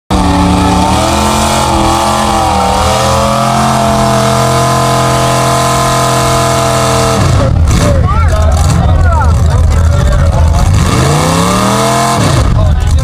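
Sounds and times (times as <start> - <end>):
truck engine at high revs: 0.1 - 13.0.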